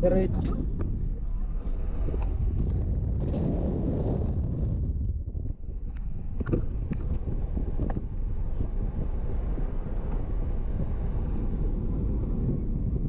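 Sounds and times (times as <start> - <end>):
car tyres and engine rumble: 0.0 - 13.0
wind on microphone: 0.0 - 13.0.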